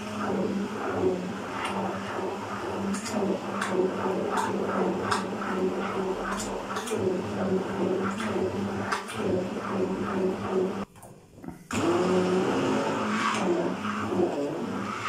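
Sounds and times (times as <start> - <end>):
stick blender motor humming: 0.0 - 10.9, 11.7 - 15.0.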